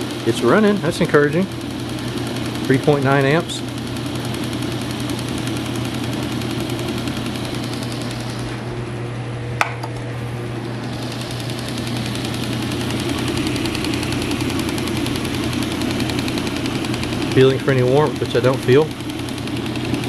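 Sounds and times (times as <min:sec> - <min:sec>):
fast mechanical rattle: 0:00.0 - 0:08.7, 0:10.5 - 0:20.0
electric motor humming: 0:00.0 - 0:20.0.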